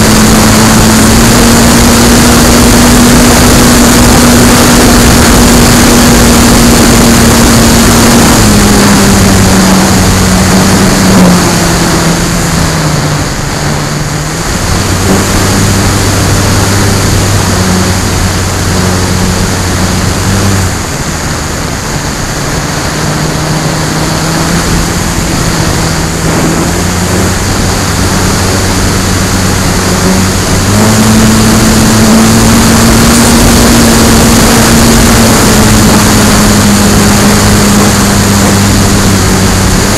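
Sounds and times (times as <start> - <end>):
electric motor and propeller: 0.0 - 39.9
wind noise: 0.0 - 39.9.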